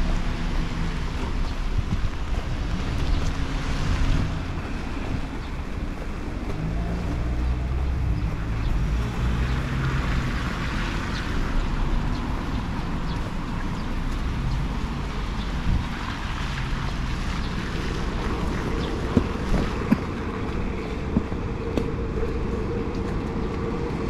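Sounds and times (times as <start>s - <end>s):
vehicle engine hum: 0.0s - 24.0s
wet road noise: 0.0s - 24.0s.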